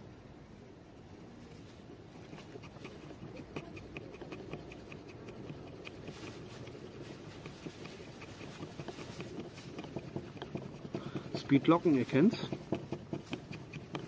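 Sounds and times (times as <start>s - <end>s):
knife scraping wooden stick: 2.2s - 14.0s.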